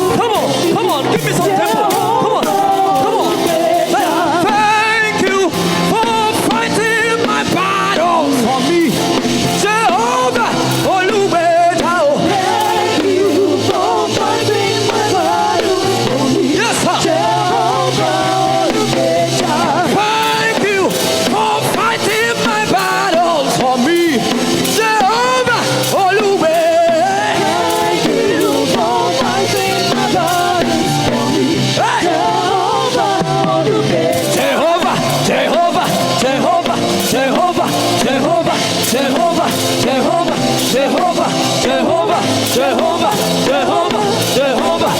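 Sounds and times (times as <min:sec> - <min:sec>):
gliding vocals: 0:00.0 - 0:44.9
gospel band playing: 0:00.0 - 0:44.9.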